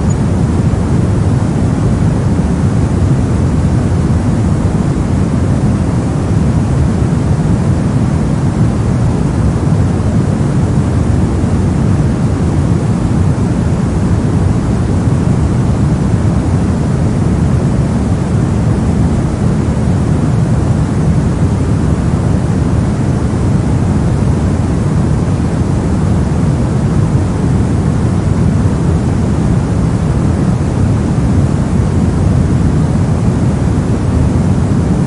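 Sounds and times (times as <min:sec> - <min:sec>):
deep white noise: 0:00.0 - 0:35.0.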